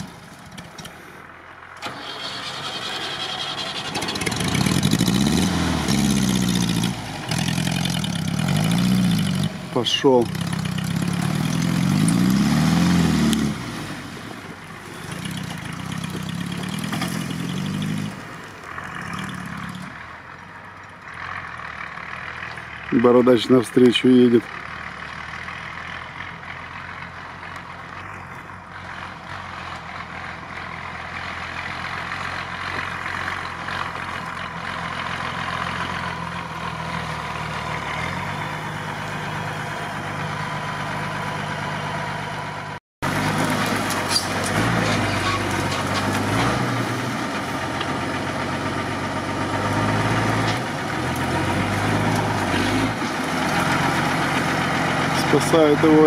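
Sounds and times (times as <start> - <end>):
truck diesel engine driving off-road: 0.0 - 56.0.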